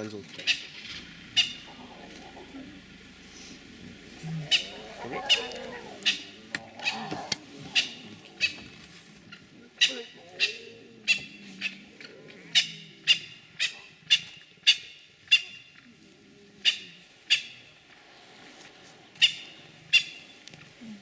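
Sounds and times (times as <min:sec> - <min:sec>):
lion cubs mewing: 0:00.4 - 0:17.4.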